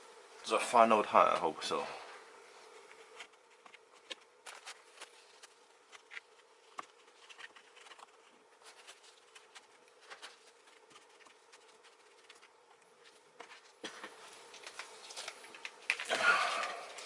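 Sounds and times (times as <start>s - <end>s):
faint steady hum: 0.0s - 17.0s
tissue paper rustling: 3.0s - 17.0s.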